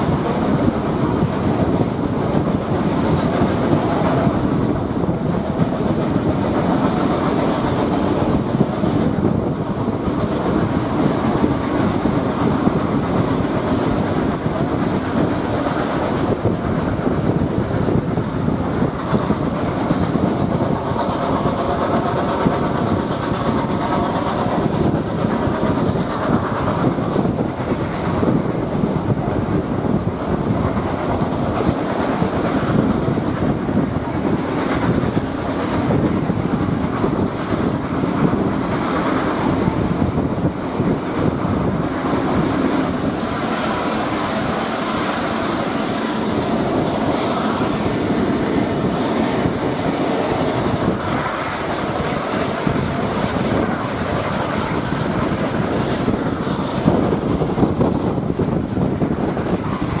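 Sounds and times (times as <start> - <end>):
steam locomotive working: 0.0 - 60.0
train wheels on rails: 0.0 - 60.0
wind on microphone: 0.0 - 60.0.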